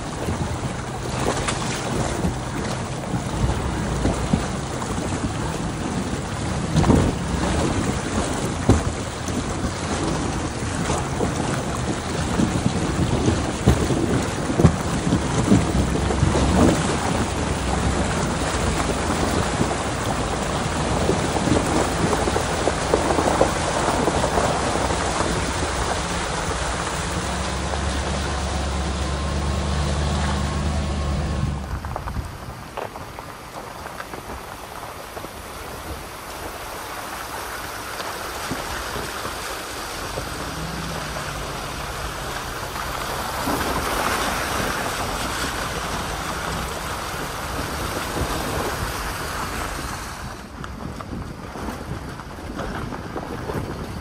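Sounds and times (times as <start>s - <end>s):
flowing creek water: 0.0s - 54.0s
truck engine drone: 0.0s - 54.0s
tyre splashing through water: 0.0s - 54.0s.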